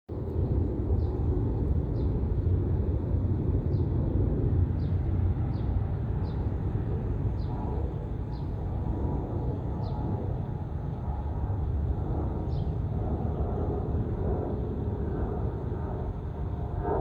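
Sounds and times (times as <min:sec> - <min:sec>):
jet engines deep rumble: 0:00.1 - 0:17.0.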